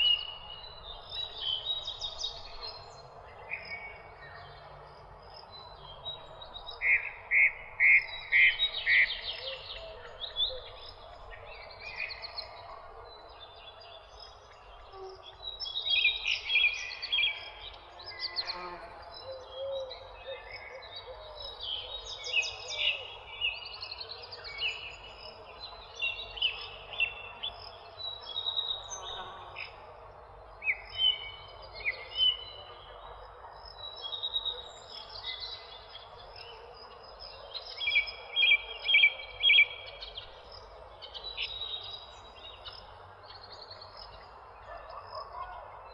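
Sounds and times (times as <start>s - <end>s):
faint background noise: 0.0s - 45.9s
songbirds chirping and singing: 0.0s - 45.9s.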